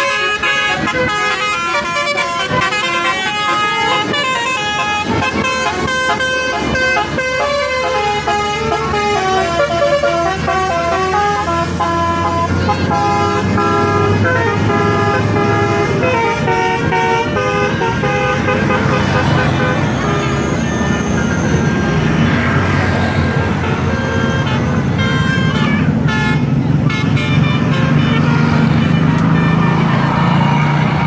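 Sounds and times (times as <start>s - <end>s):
musical air horn tune: 0.0s - 30.3s
bus engine running: 0.0s - 31.0s.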